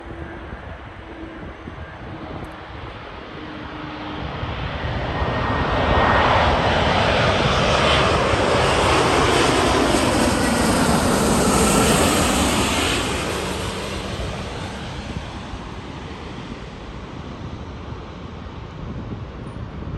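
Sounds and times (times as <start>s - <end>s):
jet engine roar: 0.0s - 19.9s.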